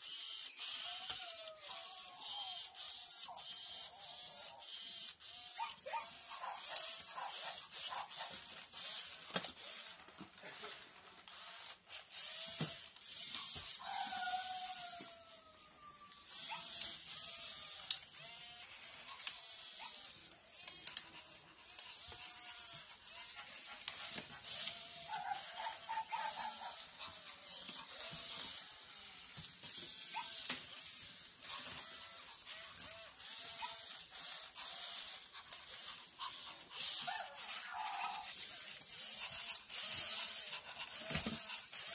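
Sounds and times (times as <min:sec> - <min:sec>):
toy robot motors whirring and clicking: 0:00.0 - 0:41.9.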